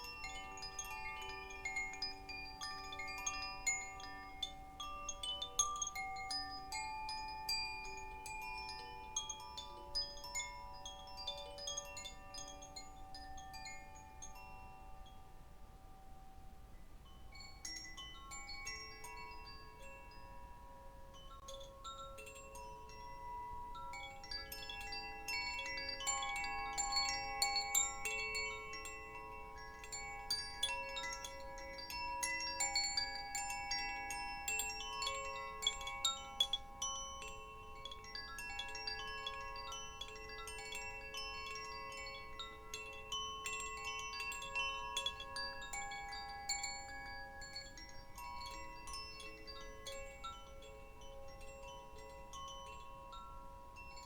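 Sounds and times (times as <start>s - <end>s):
wind chimes tinkling: 0.0s - 54.0s.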